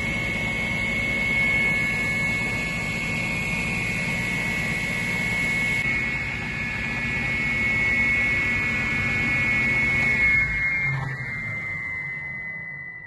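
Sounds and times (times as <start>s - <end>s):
table saw running: 0.0s - 12.3s.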